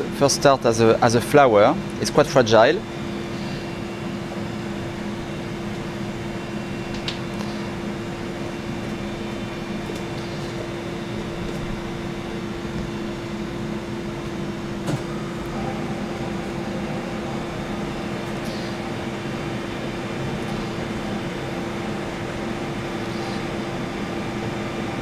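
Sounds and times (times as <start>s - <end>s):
kitchen ventilation hum: 0.0s - 25.0s.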